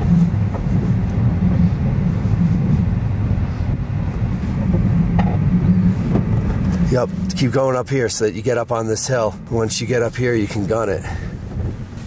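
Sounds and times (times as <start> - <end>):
low rumble of tyres on rough ground: 0.0 - 12.0.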